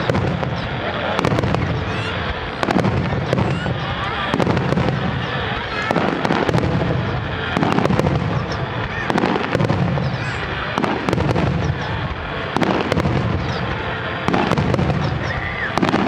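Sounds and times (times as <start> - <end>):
fireworks bangs: 0.0 - 16.0
fireworks crackle: 0.0 - 16.0.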